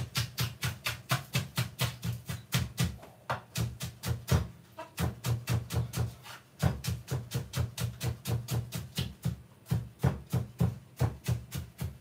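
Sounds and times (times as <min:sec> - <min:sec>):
knife chopping on wooden board: 0:00.0 - 0:12.0.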